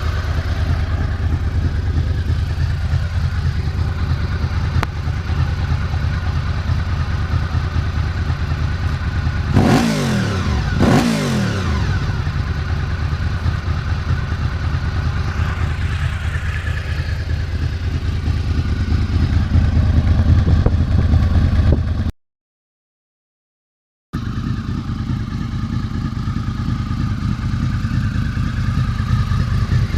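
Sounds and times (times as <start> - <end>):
motorcycle engine idling and revving: 0.0 - 22.1, 24.2 - 29.9.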